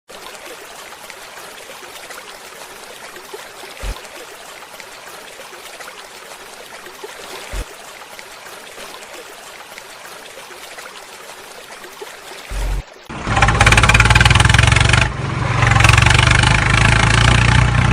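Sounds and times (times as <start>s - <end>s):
trickling stream: 0.1s - 17.9s.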